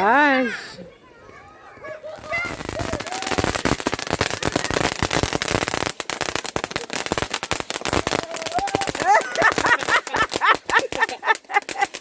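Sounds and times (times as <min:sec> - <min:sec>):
fireworks crackling and banging: 0:01.2 - 0:12.0.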